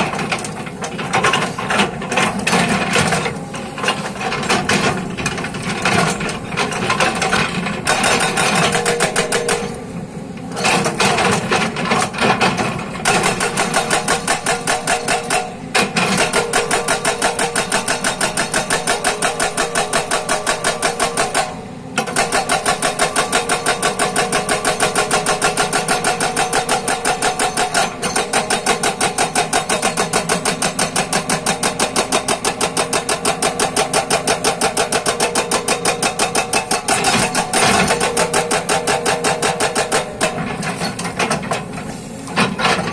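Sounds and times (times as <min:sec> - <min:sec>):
excavator engine running: 0:00.0 - 0:42.9
hydraulic rock breaker hammering: 0:00.0 - 0:42.9.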